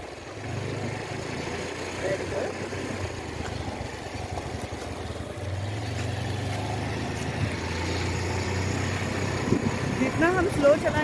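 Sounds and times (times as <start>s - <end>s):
road and wind noise: 0.0s - 11.0s
scooter engine running: 0.0s - 11.0s.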